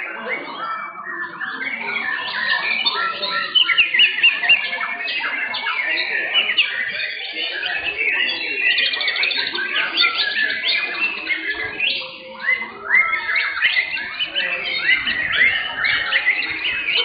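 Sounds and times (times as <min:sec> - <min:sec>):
birds singing with rapid trills: 0:00.0 - 0:17.0.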